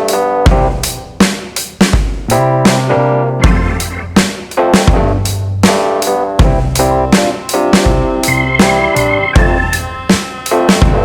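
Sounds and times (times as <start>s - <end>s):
keyboard chords: 0.0s - 1.2s, 2.3s - 11.0s
drum beat: 0.0s - 11.0s.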